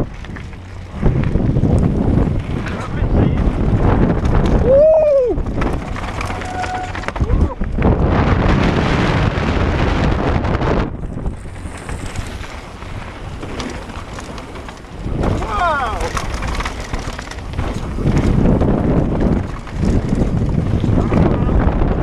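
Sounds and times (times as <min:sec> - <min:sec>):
bike tyres rolling on gravel: 0:00.0 - 0:22.0
wind rushing over camera: 0:00.0 - 0:22.0.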